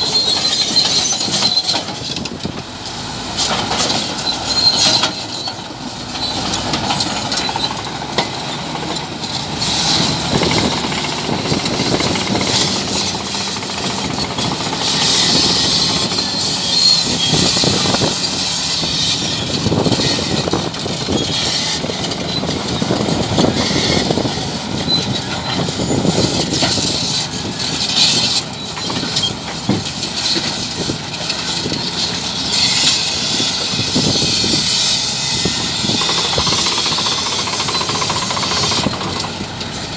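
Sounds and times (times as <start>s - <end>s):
bulldozer diesel engine under load: 0.0s - 39.9s
metallic clanking and rattling: 0.1s - 39.9s.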